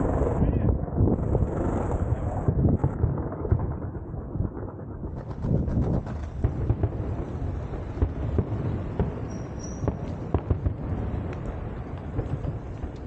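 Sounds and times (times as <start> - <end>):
fireworks bangs and pops: 0.0 - 13.0.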